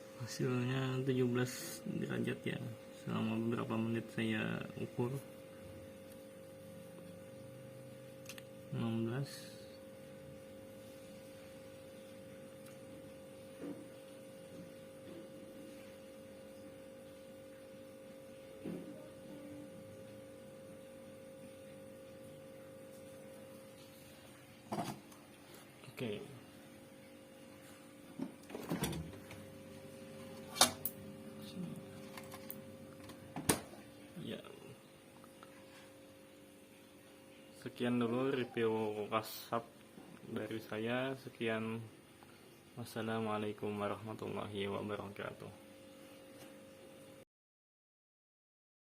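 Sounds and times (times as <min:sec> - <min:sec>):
refrigerator humming: 0:00.0 - 0:47.2.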